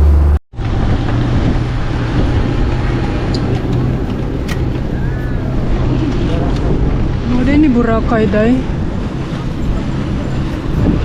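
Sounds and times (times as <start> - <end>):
constant rushing noise: 0.0 - 11.0
vehicle engine droning: 0.0 - 11.0.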